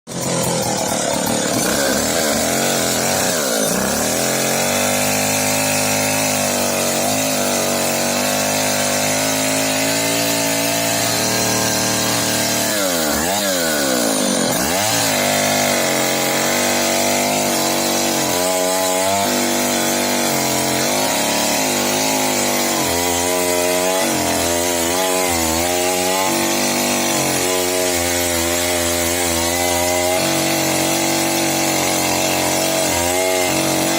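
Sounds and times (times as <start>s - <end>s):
chainsaw cutting wood: 0.1s - 33.9s.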